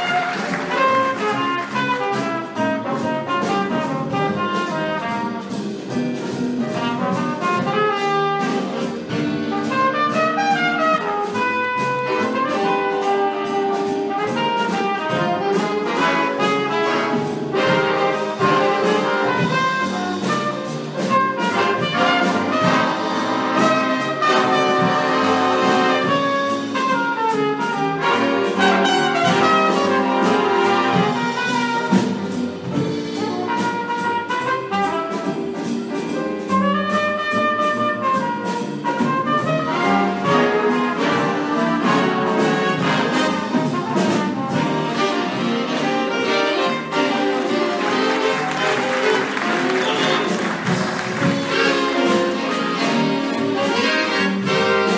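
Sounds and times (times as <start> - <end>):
trumpets and trombones: 0.0 - 6.0, 6.6 - 54.9
jazz big band playing: 0.0 - 54.9
steady drum beat: 0.0 - 54.9.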